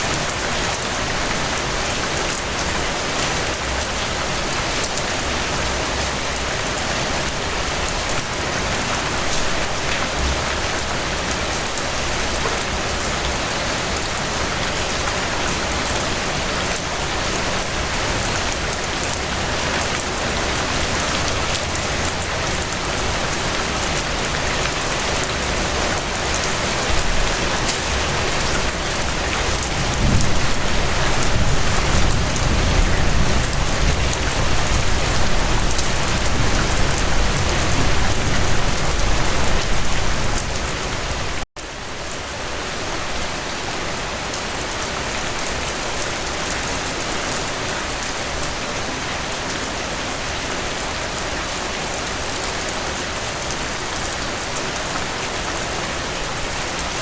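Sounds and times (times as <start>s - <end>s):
rain hitting a surface: 0.0s - 57.0s.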